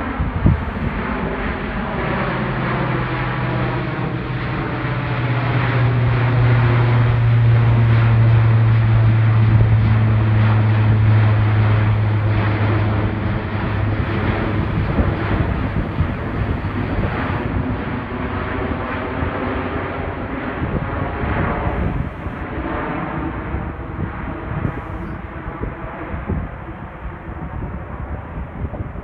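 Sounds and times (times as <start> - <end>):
aircraft flying overhead: 0.0 - 29.0.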